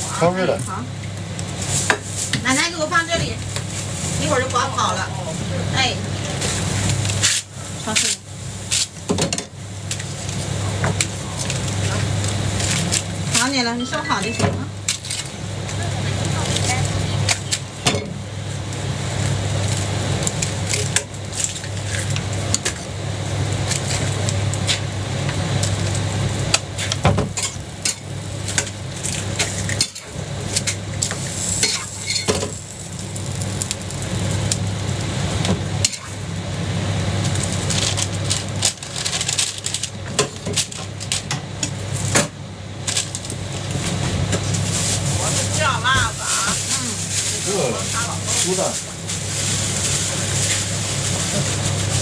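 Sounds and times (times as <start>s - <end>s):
pancake sizzling on a griddle: 0.0s - 52.0s.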